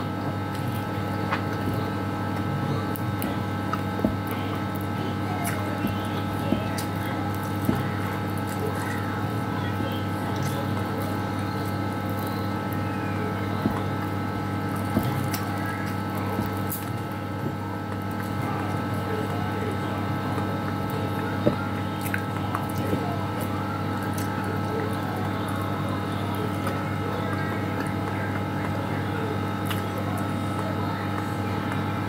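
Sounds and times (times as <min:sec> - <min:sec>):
steady background hum: 0:00.0 - 0:32.0
chewing: 0:00.2 - 0:32.0.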